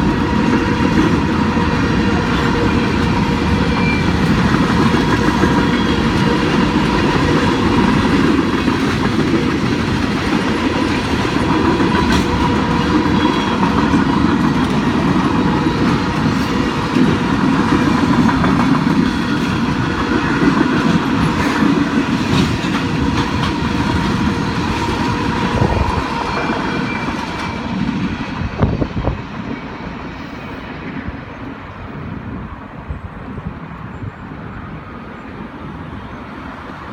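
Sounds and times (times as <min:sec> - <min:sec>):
train wheels clickety-clack: 0:00.0 - 0:34.1.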